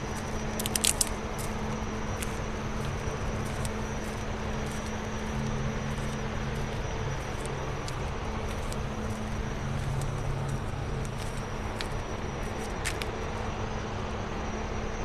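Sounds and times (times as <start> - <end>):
broad rushing noise: 0.0 - 14.4
low machinery hum: 0.0 - 15.0.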